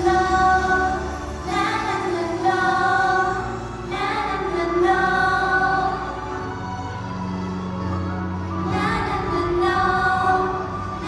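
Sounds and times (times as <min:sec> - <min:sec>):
women singing pop song: 0:00.0 - 0:06.7, 0:08.6 - 0:11.0.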